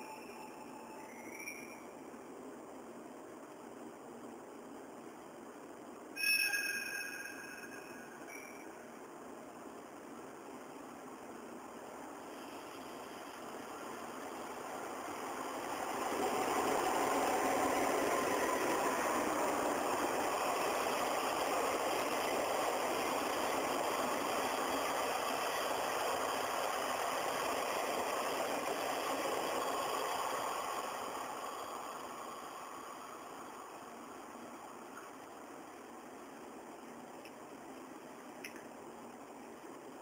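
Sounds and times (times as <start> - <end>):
train running past: 0.0 - 40.0.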